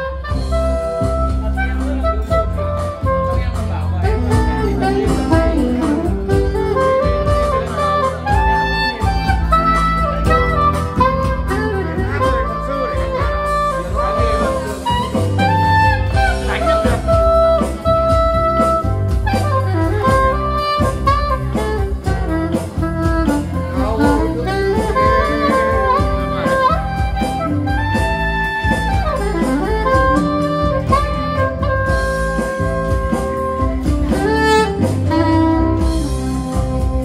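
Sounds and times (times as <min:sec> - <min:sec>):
saxophone playing jazz melody: 0:00.0 - 0:37.0
steady beat: 0:00.0 - 0:37.0.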